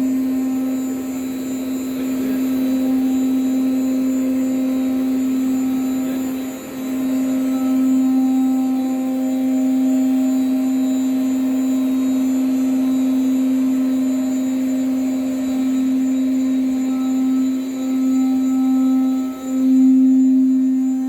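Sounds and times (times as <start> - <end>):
router spindle motor whine: 0.0 - 21.0.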